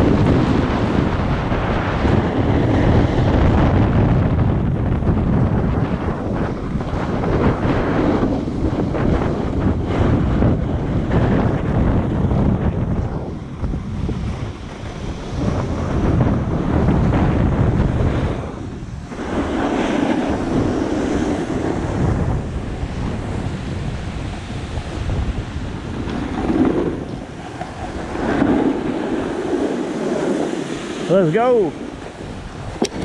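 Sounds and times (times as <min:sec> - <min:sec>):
wind buffeting microphone: 0:00.0 - 0:33.0
skis scraping over snow: 0:05.2 - 0:33.0.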